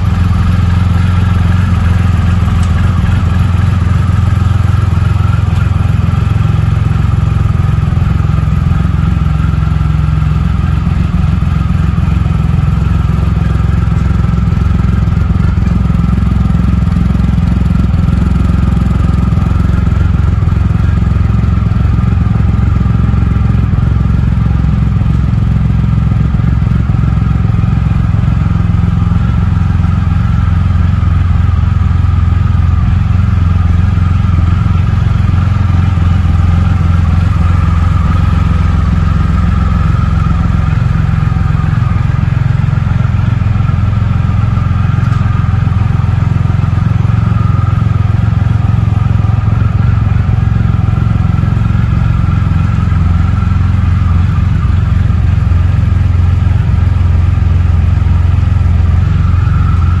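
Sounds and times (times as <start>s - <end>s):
motorcycle engine idling: 0.0s - 60.0s.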